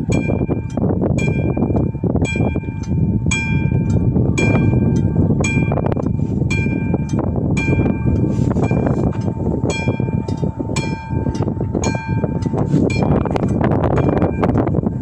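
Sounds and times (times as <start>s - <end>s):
train rumbling and clattering: 0.0s - 15.0s
level crossing bell ringing: 2.3s - 14.6s.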